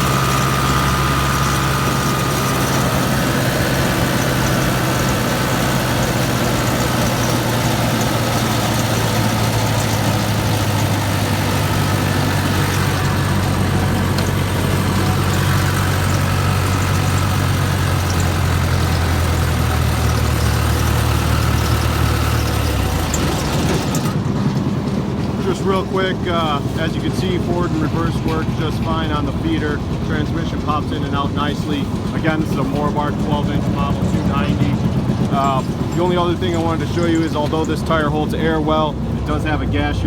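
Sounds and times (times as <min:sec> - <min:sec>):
wood chipper engine running: 0:00.0 - 0:40.0.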